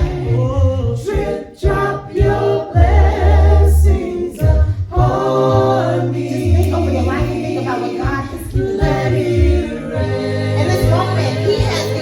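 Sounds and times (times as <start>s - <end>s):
a cappella group singing in harmony: 0.0s - 12.0s
deep bass voices: 0.0s - 12.0s.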